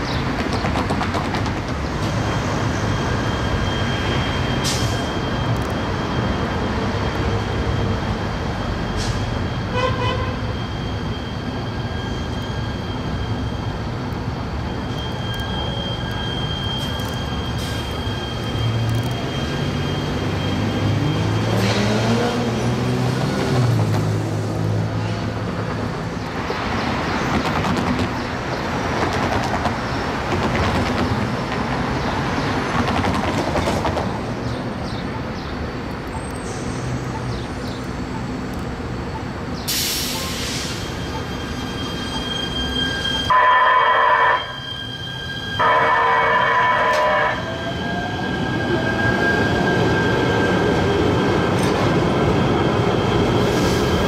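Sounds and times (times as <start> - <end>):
train wheels rushing on rails: 0.0 - 43.4, 44.0 - 54.0.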